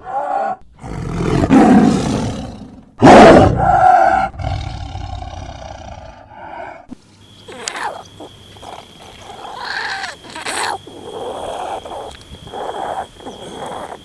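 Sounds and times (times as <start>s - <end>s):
animal rough calls: 0.0s - 14.0s.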